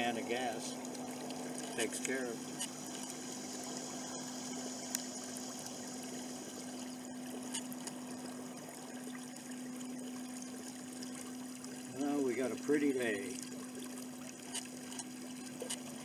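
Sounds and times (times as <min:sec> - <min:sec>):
small outboard motor humming: 0:00.0 - 0:16.0
water swishing past hull: 0:00.0 - 0:16.0.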